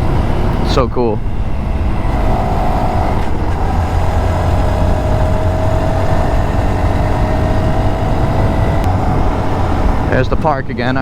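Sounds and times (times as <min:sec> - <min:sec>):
heavy low rumble: 0:00.0 - 0:11.0
motorcycle engine accelerating: 0:00.0 - 0:11.0.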